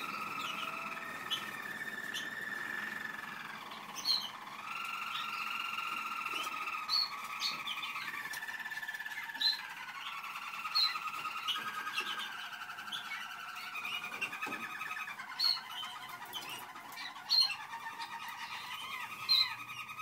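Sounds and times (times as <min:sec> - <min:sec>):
canaries singing trills: 0:00.0 - 0:20.0.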